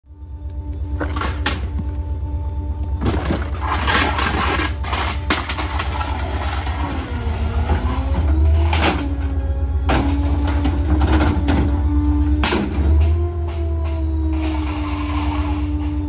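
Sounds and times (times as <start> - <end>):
garbage truck engine and packer: 0.0 - 16.0
crunching and scraping: 0.1 - 16.0.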